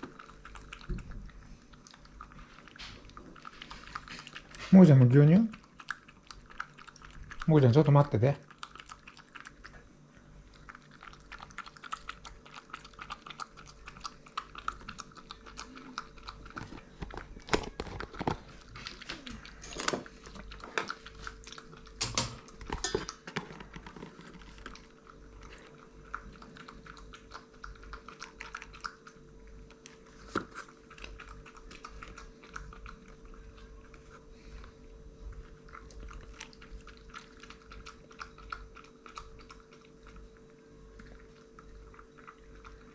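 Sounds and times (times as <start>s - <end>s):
pet lapping milk: 0.0s - 42.9s.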